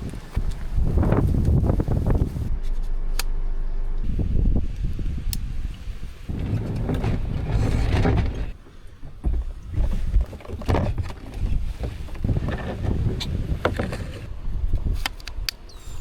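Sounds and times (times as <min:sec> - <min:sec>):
wind buffeting microphone: 0:00.0 - 0:02.5, 0:04.0 - 0:16.0.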